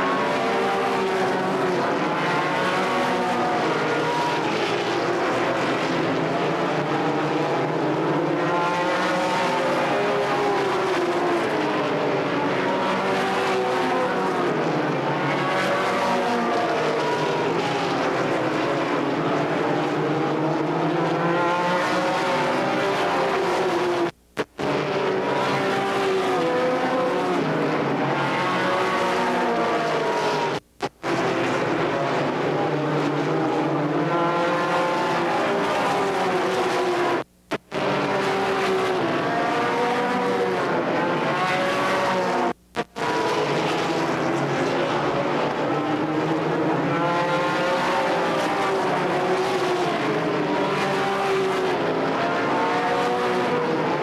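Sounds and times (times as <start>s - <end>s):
stock car engines racing: 0.0s - 54.0s.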